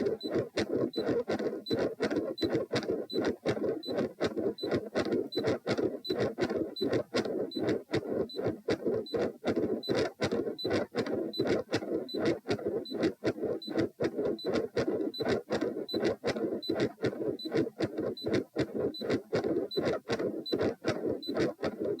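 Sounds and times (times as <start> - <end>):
heartbeats: 0.0 - 22.0.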